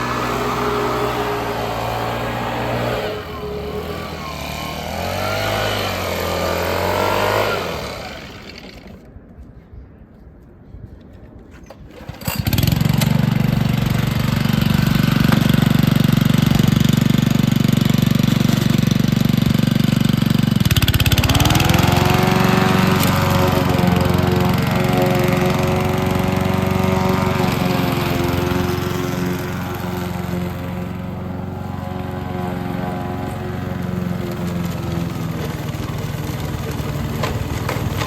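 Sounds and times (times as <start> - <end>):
lawn mower engine running: 0.0 - 9.1, 11.6 - 38.0.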